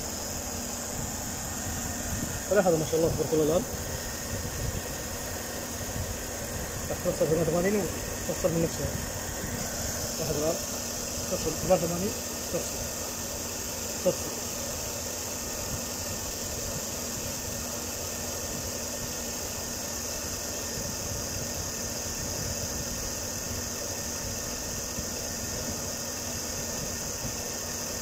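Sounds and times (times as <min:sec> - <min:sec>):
car engine idling: 0:00.0 - 0:28.0
radiator cooling fans running: 0:00.0 - 0:28.0.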